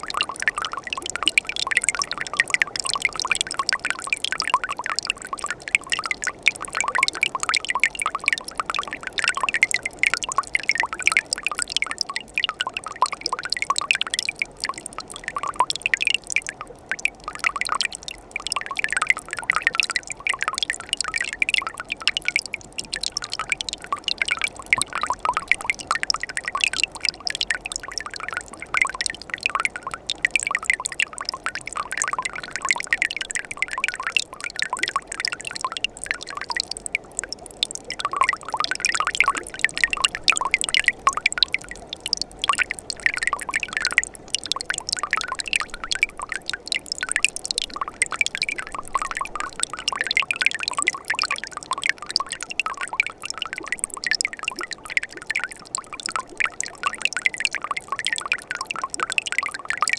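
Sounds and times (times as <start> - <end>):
stream trickling and splashing: 0.0 - 59.9.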